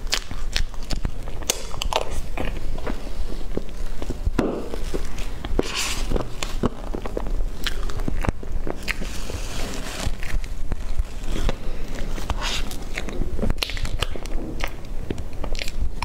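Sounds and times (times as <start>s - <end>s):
person chewing wet mouth sounds: 0.0s - 9.4s, 10.9s - 16.0s.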